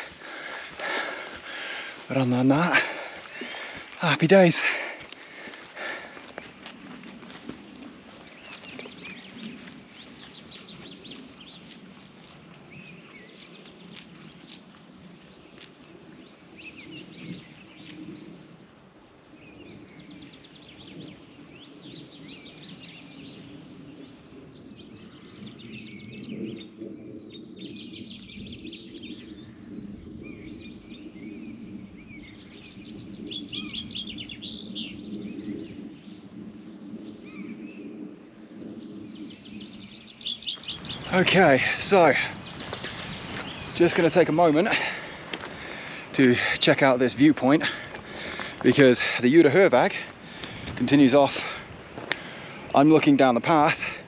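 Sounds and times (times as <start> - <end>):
low outdoor background noise: 0.0 - 54.0
songbirds chirping and trilling: 0.0 - 54.0.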